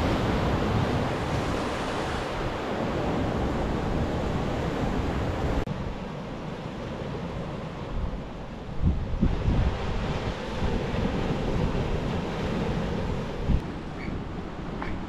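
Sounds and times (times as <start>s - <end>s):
ocean surf on rocky shore: 0.0s - 15.0s
wind rumble on microphone: 0.0s - 15.0s.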